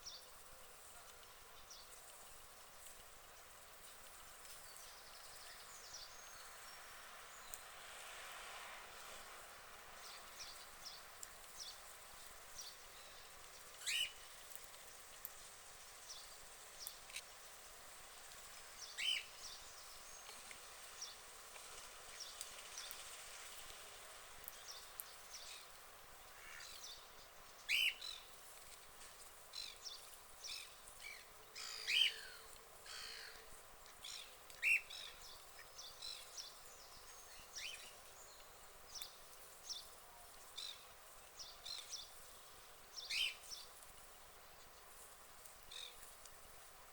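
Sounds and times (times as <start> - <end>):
faint steady hiss: 0.0 - 46.9.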